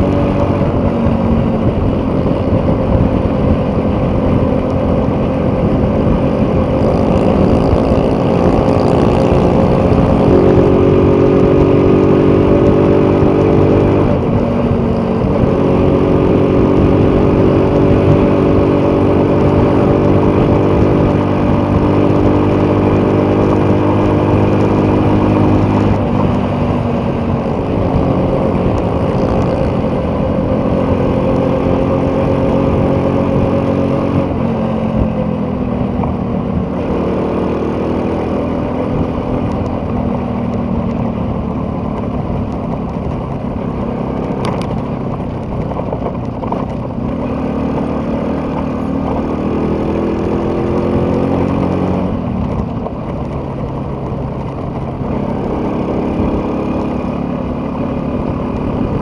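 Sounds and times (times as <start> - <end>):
steady rushing noise: 0.0 - 59.0
vehicle engine running: 0.0 - 59.0.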